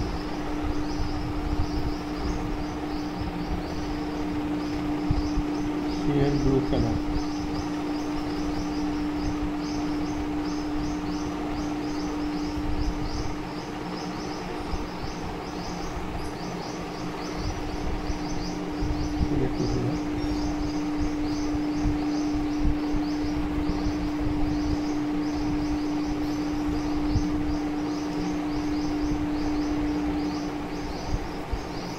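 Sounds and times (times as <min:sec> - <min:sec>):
birds chirping: 0:00.0 - 0:31.9
steady low hum: 0:00.0 - 0:31.9.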